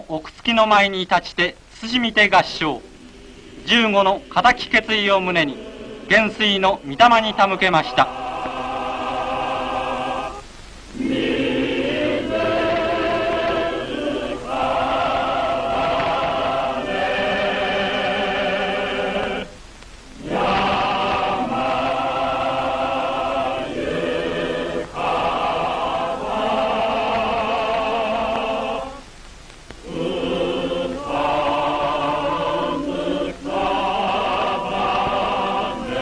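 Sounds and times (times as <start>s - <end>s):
choir singing slow song: 2.6s - 36.0s.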